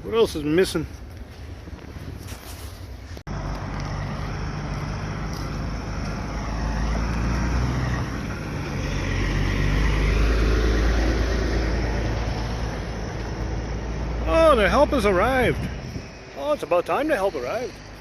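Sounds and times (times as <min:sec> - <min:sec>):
vehicle engine humming: 0:00.9 - 0:18.0.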